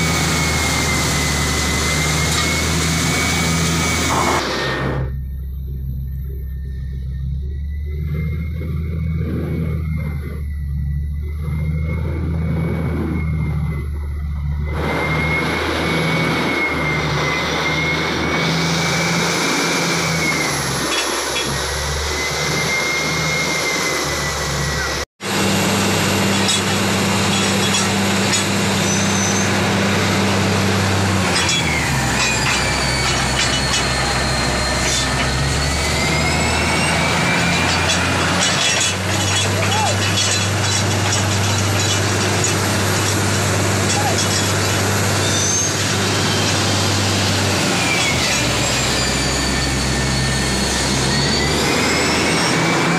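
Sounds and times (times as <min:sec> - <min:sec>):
tractor engine running under load: 0:00.0 - 0:22.2, 0:23.9 - 0:52.9.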